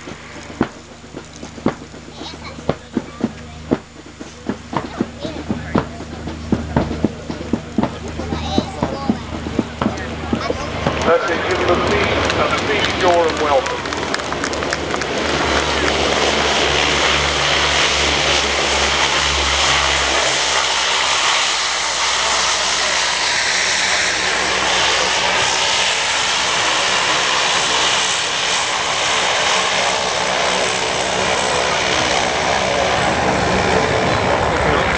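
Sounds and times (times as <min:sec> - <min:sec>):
low droning hum: 0:00.0 - 0:34.9
turboprop engines running: 0:00.0 - 0:34.9.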